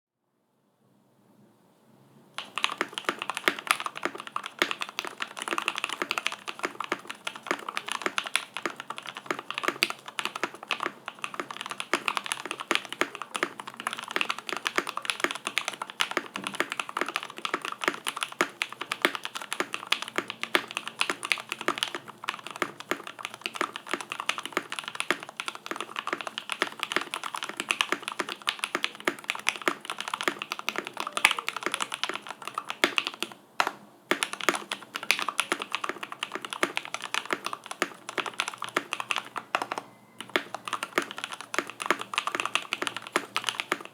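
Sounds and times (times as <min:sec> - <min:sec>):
mechanical keyboard typing: 0:02.4 - 0:43.9.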